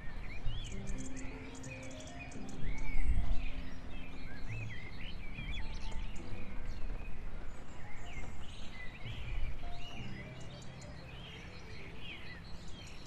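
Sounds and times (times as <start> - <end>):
low outdoor background noise: 0.0 - 13.0
songbirds chirping and whistling: 0.0 - 13.0.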